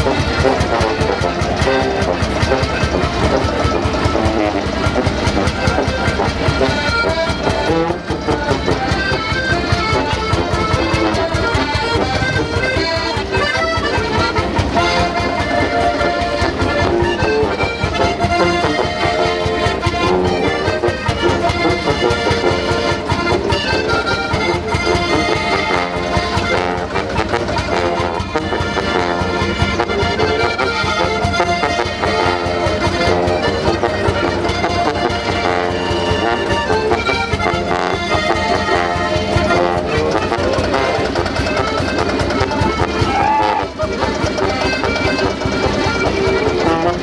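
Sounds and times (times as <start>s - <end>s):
brass horn: 0.0s - 47.0s
button accordions: 0.0s - 47.0s.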